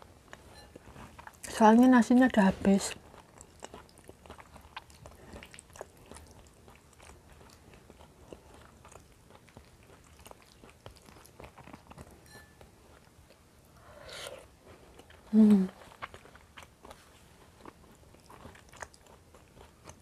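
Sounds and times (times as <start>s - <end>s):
chewing and mouth sounds: 0.0s - 20.0s.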